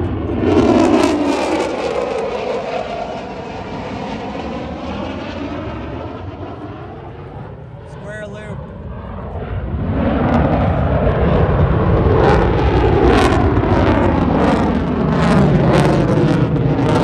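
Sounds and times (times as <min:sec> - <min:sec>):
loud fighter jet noise: 0:00.0 - 0:17.0.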